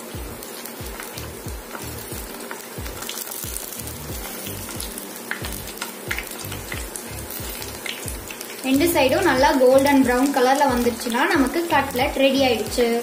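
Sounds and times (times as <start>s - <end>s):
hot oil sizzling and crackling: 0.0s - 13.0s
soft background music with beat: 0.0s - 13.0s.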